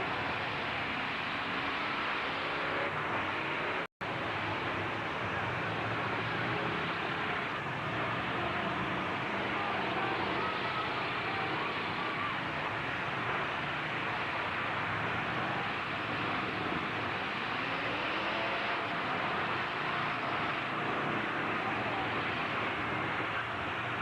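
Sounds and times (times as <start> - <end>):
steady wash of noise: 0.0 - 24.0
truck engines revving: 0.0 - 24.0.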